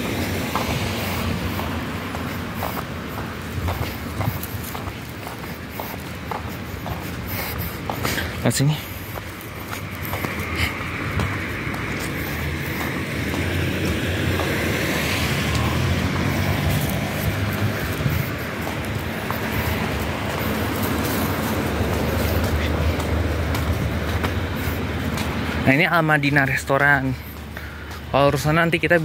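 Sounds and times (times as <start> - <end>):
rumble of passing cars: 0.0 - 29.0.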